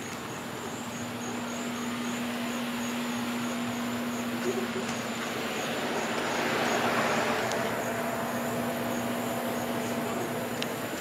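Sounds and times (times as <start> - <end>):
car engine and tyre noise: 0.0 - 11.0
low hum: 0.7 - 11.0.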